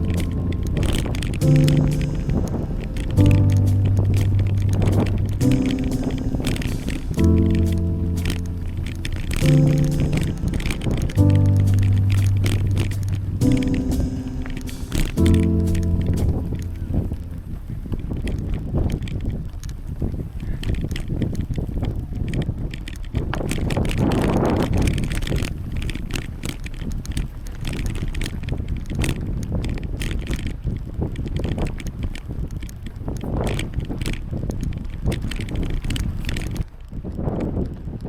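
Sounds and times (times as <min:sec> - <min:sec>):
bicycle rumble: 0:00.0 - 0:38.0
small rattles and clicks: 0:00.0 - 0:38.0
wind buffeting microphone: 0:00.0 - 0:38.0.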